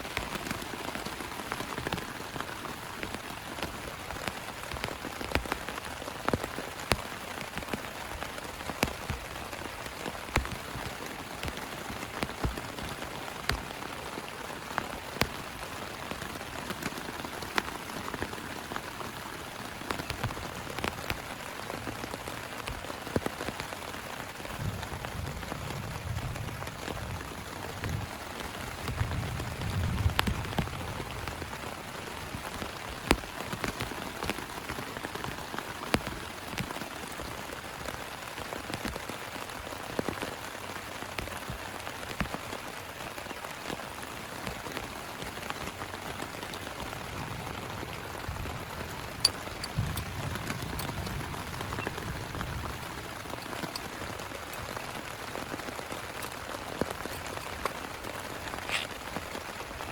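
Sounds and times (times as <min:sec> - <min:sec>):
heavy rain falling: 0:00.0 - 0:59.9
raindrops tapping close by: 0:00.0 - 0:59.9.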